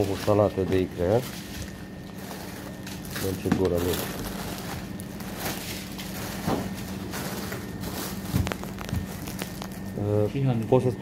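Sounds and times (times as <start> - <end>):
paper and plastic rustling: 0.0 - 10.1
steady low hum: 0.0 - 11.0.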